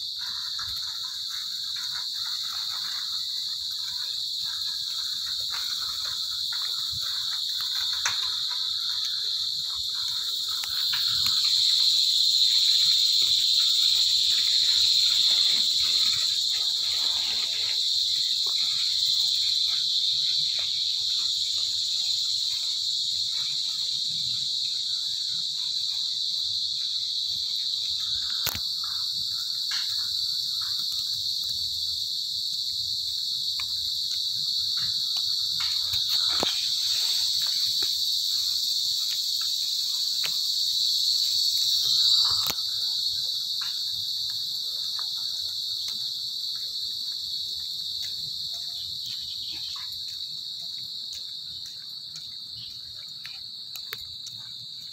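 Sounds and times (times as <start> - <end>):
insects shrilling: 0.0 - 54.9.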